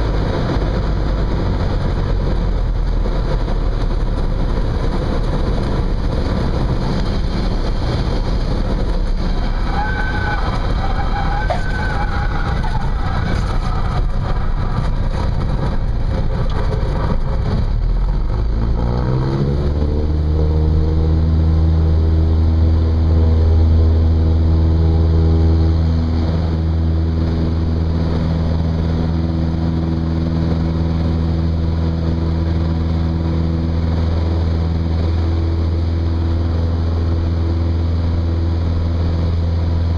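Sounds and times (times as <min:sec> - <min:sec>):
light aircraft engine and propeller: 0:00.0 - 0:09.6, 0:12.6 - 0:39.9.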